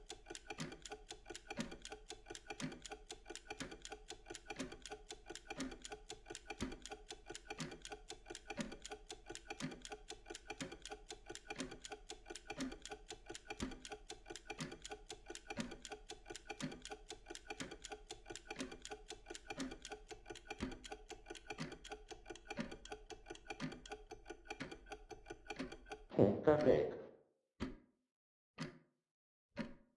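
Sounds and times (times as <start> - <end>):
mechanical kitchen timer ticking: 0.0 - 26.8.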